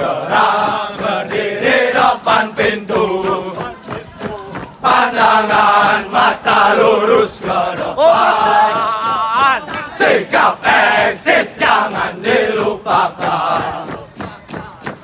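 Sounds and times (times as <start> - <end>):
men chanting in unison: 0.0 - 14.1.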